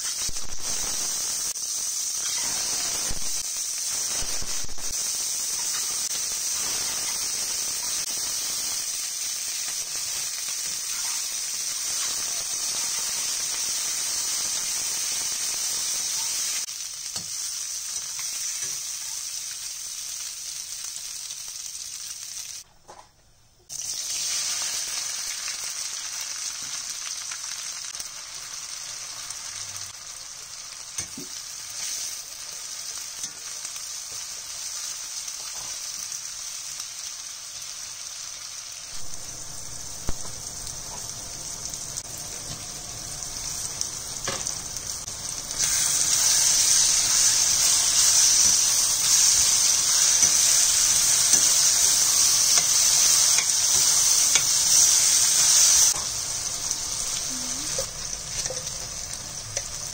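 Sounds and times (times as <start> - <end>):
food sizzling in oil: 0.0 - 22.7, 23.7 - 59.9.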